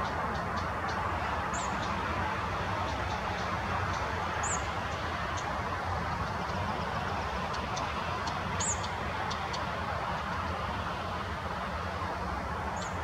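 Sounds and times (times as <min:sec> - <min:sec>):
steady outdoor rush: 0:00.0 - 0:13.0.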